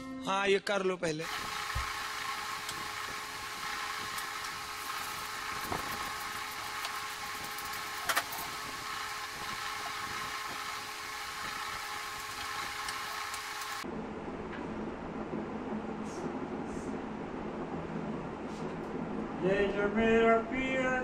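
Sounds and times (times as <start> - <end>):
machine humming: 1.2 - 21.0.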